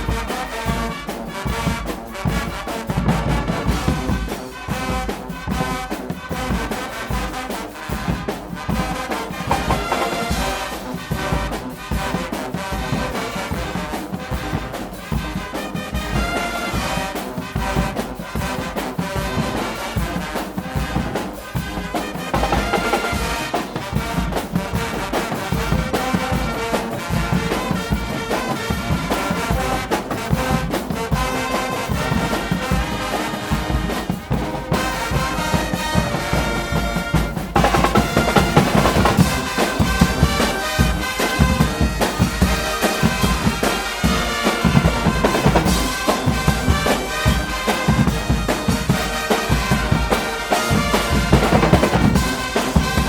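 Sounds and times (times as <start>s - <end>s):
pounding drum beat: 0.0s - 53.0s
trumpets and trombones: 0.0s - 53.0s.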